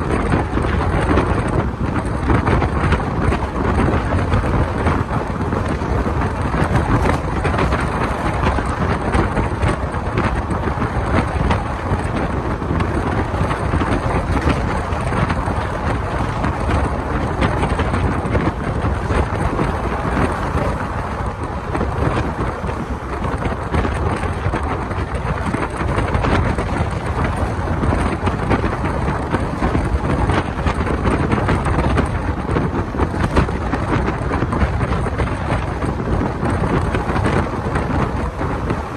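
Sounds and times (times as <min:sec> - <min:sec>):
train running on track: 0:00.0 - 0:38.9
wind buffeting microphone: 0:00.0 - 0:38.9.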